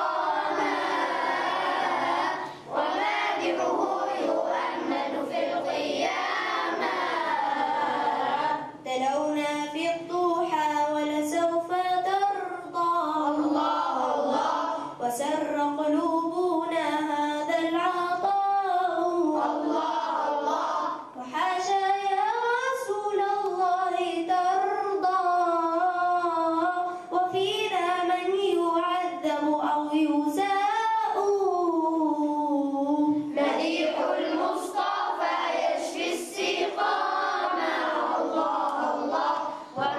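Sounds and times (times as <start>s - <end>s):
young voices singing praise song: 0.0s - 9.1s, 11.2s - 39.9s.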